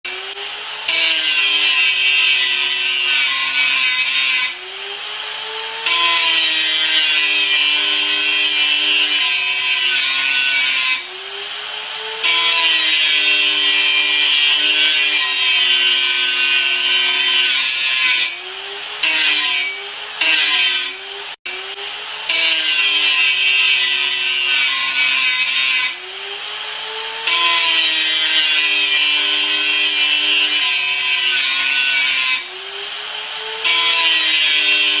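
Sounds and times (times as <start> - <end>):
angle grinder grinding: 0.1 - 35.0.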